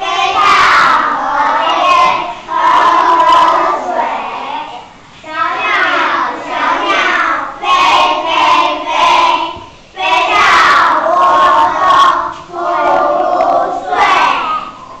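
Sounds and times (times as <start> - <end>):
children's voices in unison: 0.0 - 14.8.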